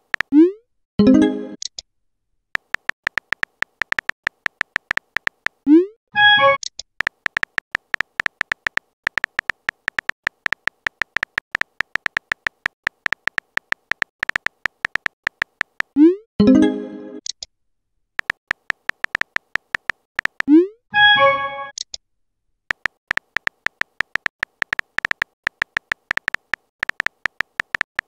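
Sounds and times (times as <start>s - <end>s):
phone keyboard tapping with beeps: 0.0s - 1.7s, 2.6s - 16.6s, 18.2s - 21.9s, 22.7s - 28.0s.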